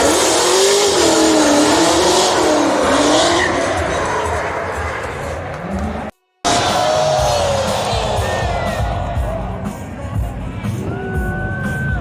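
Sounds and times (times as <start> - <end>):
tyres squealing: 0.0 - 9.8
car engine wavering: 0.0 - 12.0.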